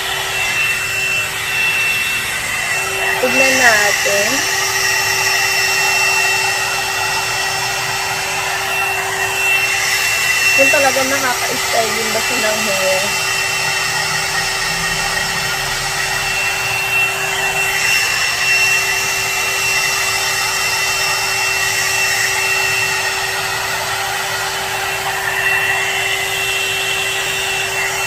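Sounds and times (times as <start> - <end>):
hot air brush blowing: 0.0 - 28.0.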